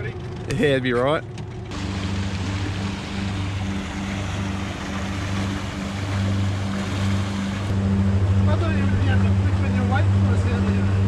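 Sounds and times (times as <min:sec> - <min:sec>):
boat engine droning: 0:00.0 - 0:11.0
wake churning water: 0:01.6 - 0:11.0.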